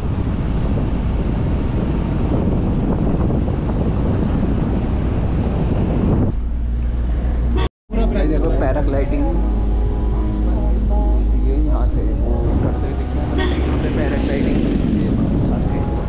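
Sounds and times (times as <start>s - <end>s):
wind buffeting microphone: 0.0s - 7.7s, 8.7s - 16.0s
car rumbling on dirt road: 0.0s - 16.0s.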